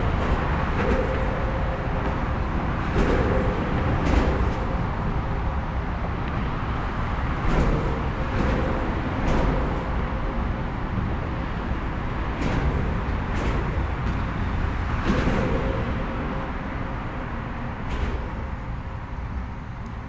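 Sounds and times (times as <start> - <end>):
heavy traffic rumble and hiss: 0.0 - 20.0.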